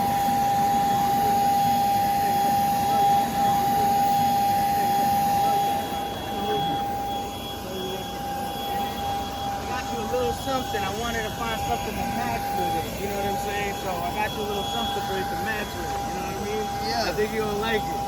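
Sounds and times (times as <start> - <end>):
jet turbine engines running: 0.0 - 18.0.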